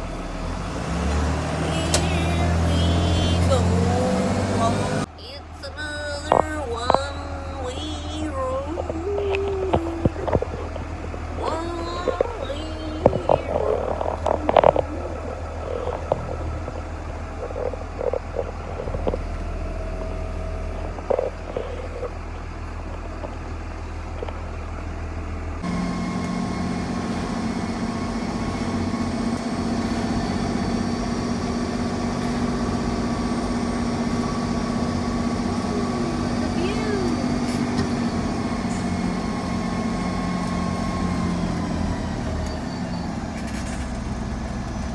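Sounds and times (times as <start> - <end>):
diesel truck engine running: 0.0 - 44.9
road noise: 0.0 - 44.9.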